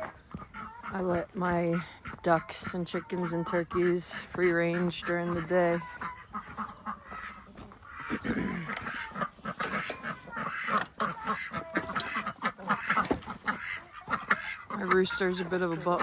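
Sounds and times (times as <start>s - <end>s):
ducks chickens and turkeys calling: 0.0s - 16.0s.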